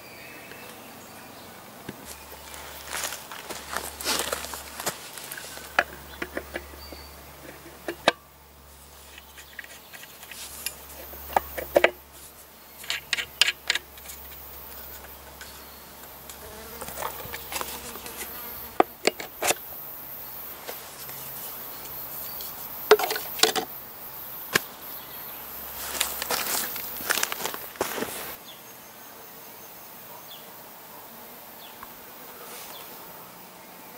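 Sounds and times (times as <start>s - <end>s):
insects buzzing: 0.0s - 33.9s.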